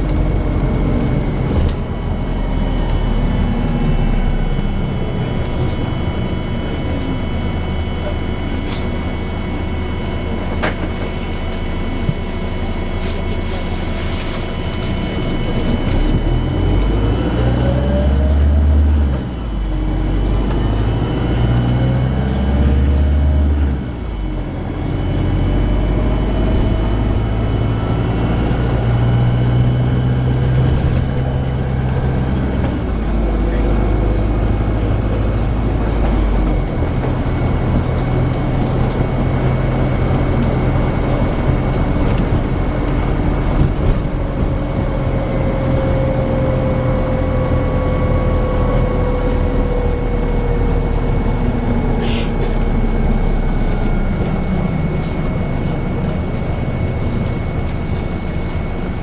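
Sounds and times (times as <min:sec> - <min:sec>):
bus engine droning: 0:00.0 - 0:59.0.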